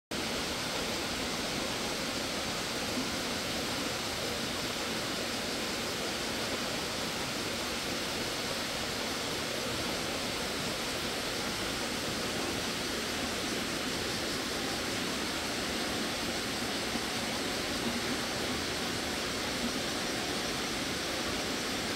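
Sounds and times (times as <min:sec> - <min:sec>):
stream water rushing: 0:00.1 - 0:21.9.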